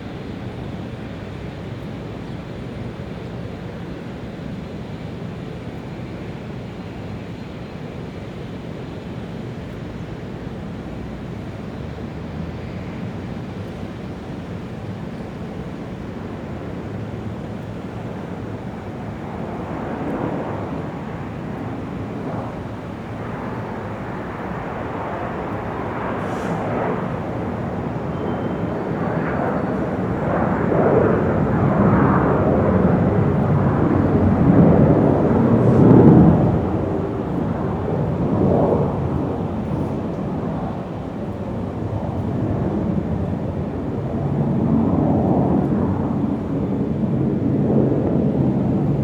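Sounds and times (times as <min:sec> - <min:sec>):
rumble of aircraft: 0:00.0 - 0:49.0.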